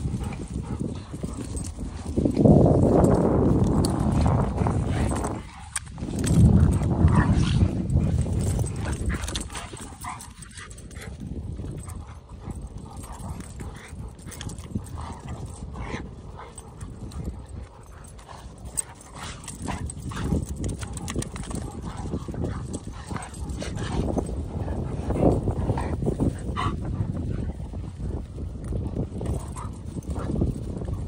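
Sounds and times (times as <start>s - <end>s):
dogs scuffling and growling: 0.0s - 31.0s.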